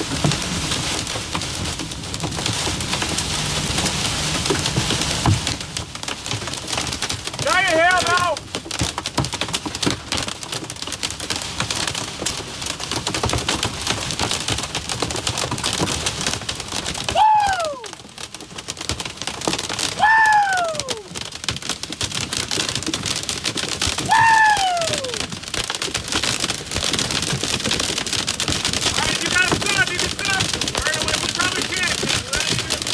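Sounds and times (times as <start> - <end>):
heavy rain drumming on vehicle roof: 0.0 - 32.9.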